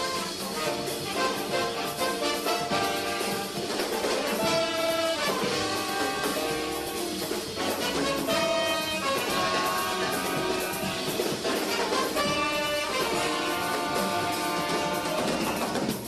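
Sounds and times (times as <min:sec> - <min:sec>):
drum kit: 0:00.0 - 0:16.0
jazz horn section playing: 0:00.0 - 0:16.0.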